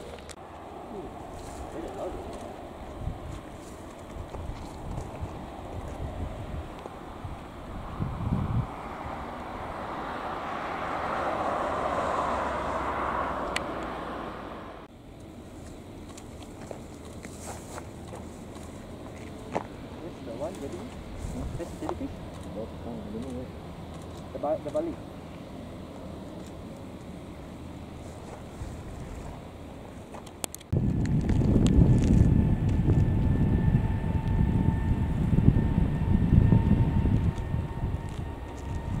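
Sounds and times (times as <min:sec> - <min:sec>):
jet aircraft rushing noise: 0:00.0 - 0:14.9, 0:18.8 - 0:39.0
high engine whine: 0:00.0 - 0:39.0.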